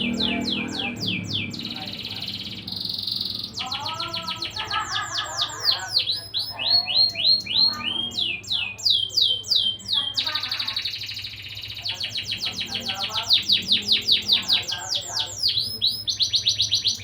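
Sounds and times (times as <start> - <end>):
canary singing rapid trills: 0.0 - 17.0.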